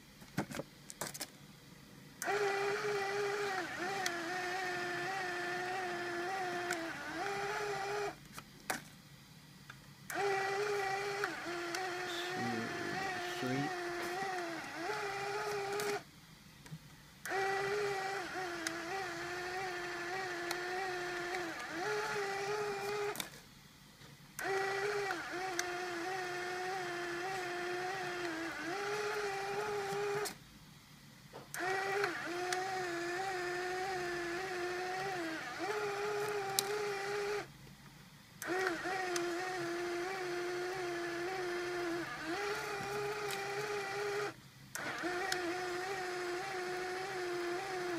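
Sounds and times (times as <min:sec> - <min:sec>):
small electric motor whining: 0:02.2 - 0:08.2, 0:10.1 - 0:16.1, 0:17.2 - 0:23.4, 0:24.4 - 0:30.4, 0:31.5 - 0:37.5, 0:38.4 - 0:47.9.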